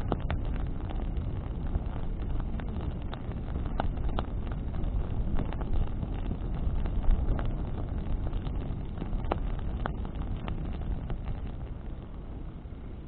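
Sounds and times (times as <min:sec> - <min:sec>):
sharp snaps of burning wood: 0:00.0 - 0:12.5
bonfire crackling: 0:00.0 - 0:13.0
wind buffeting microphone: 0:00.0 - 0:13.0.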